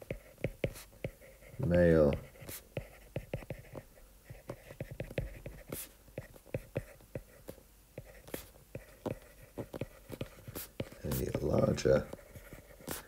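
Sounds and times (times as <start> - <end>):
stylus tapping on screen: 2.0 - 12.6.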